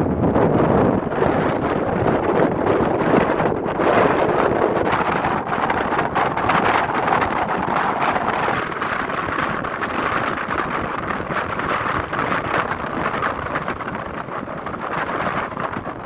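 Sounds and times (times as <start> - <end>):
thunderstorm rushing noise: 0.0 - 16.0.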